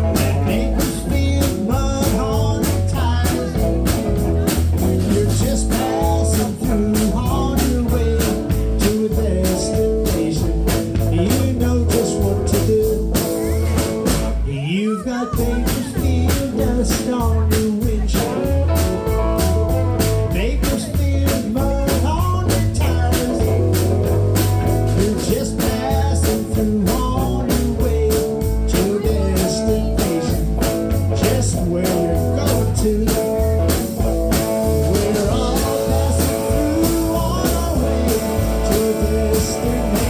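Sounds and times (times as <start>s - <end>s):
drum beat: 0.0s - 14.5s, 15.2s - 40.0s
bass: 0.0s - 40.0s
electric guitar: 0.0s - 40.0s.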